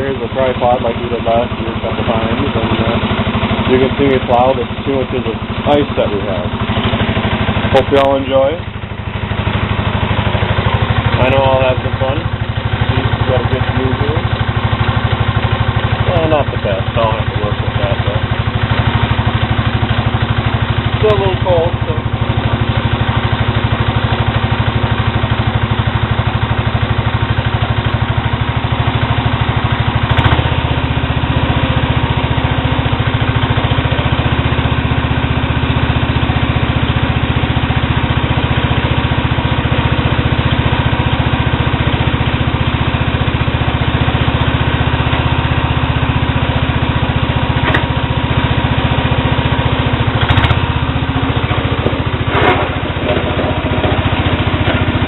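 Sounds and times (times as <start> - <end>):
tractor engine idling unmuffled: 0.0 - 55.0.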